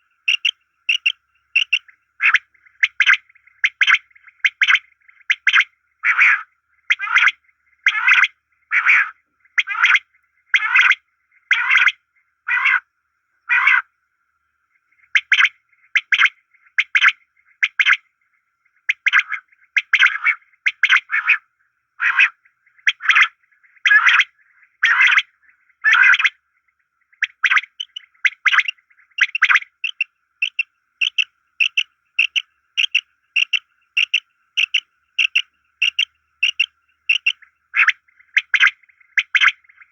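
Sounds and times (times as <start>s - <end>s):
quail calling: 0.0s - 12.8s, 13.5s - 13.9s, 15.0s - 18.0s, 18.8s - 21.4s, 22.0s - 26.4s, 27.1s - 39.9s.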